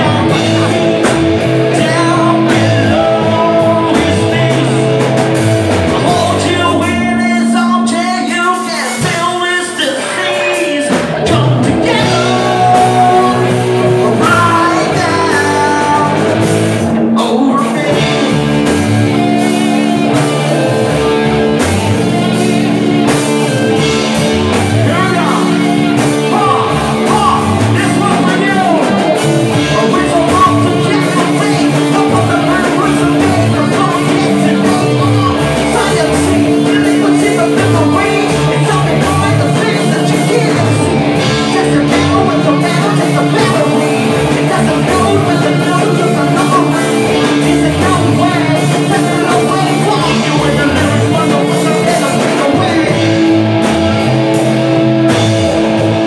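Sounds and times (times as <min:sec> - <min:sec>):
man singing into microphone: 0:00.0 - 0:05.2, 0:05.9 - 0:16.5, 0:17.1 - 0:18.4, 0:24.7 - 0:53.3
drums: 0:00.0 - 0:56.0
electric guitar: 0:00.0 - 0:56.0.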